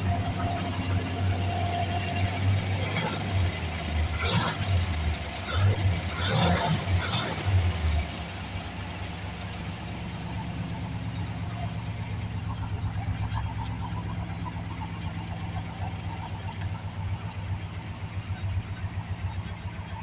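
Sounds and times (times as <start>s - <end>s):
car engine revving and idling: 0.0s - 20.0s.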